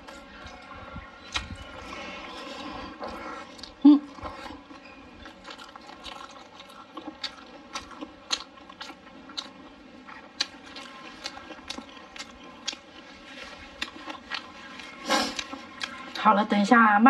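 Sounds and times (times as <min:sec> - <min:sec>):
person chewing with wet smacks: 0:00.0 - 0:16.4.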